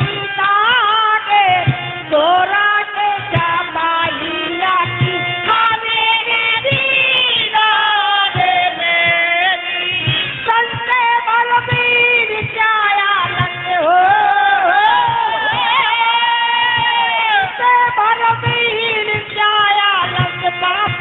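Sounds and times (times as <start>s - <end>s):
drum strokes: 0.0s - 21.0s.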